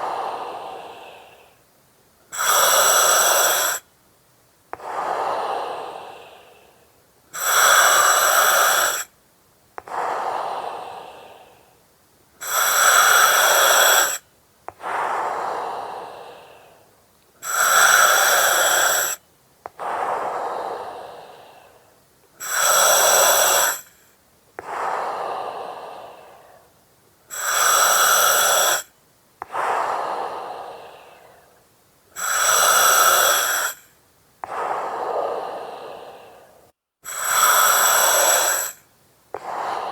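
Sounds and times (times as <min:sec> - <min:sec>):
breathing through oxygen mask: 0:00.0 - 0:01.6, 0:02.3 - 0:03.8, 0:04.8 - 0:09.1, 0:09.8 - 0:11.8, 0:12.4 - 0:31.6, 0:32.2 - 0:39.9.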